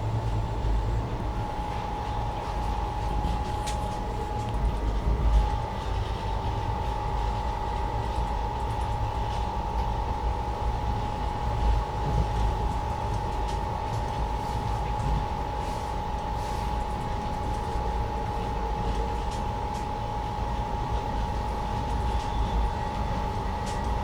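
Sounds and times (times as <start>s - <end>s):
train rumble in motion: 0.0s - 24.0s.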